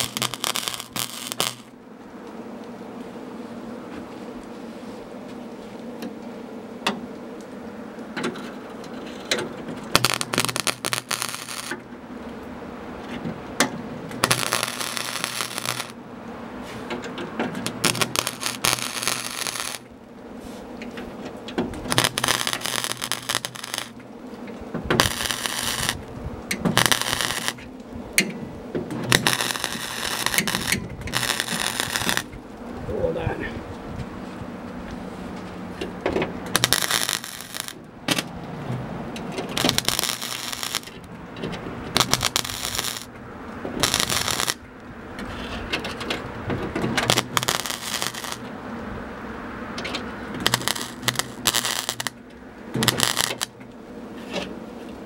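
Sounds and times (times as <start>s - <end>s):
welder crackling sizzle: 0.0s - 45.4s, 46.2s - 55.0s
steady hum: 0.0s - 55.0s.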